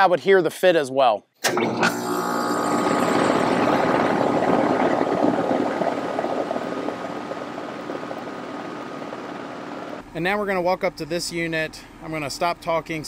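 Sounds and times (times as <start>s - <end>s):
steady hum: 1.5s - 12.7s
condenser fan rushing: 1.5s - 13.0s.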